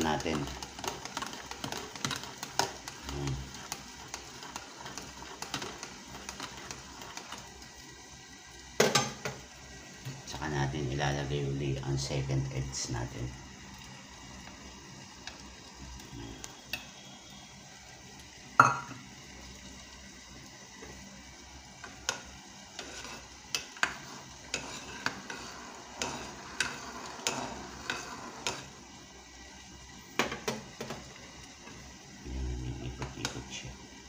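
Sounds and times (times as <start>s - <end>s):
faint steady hiss: 0.0s - 34.0s.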